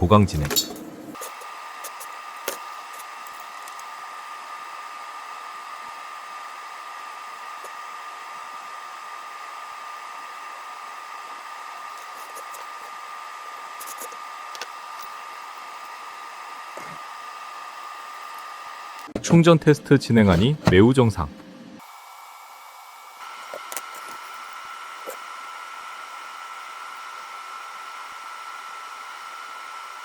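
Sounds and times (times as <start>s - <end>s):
electric blower motor whirring: 0.0s - 30.0s.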